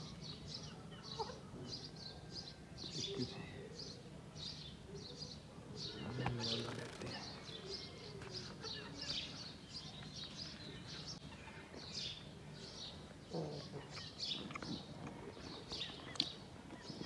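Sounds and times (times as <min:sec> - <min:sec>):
birds chirping: 0:00.0 - 0:17.0
faint outdoor background noise: 0:00.0 - 0:17.0.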